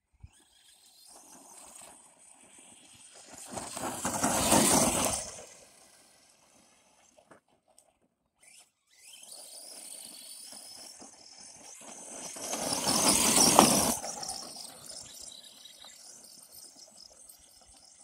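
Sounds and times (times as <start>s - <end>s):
rc truck driving over dirt: 0.0s - 18.0s.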